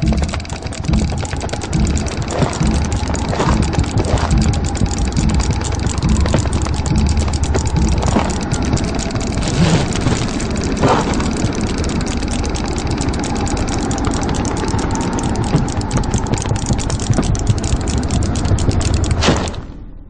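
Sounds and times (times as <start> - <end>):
knitting needles clicking: 0.0 - 19.4
steady low rumble: 0.0 - 20.0.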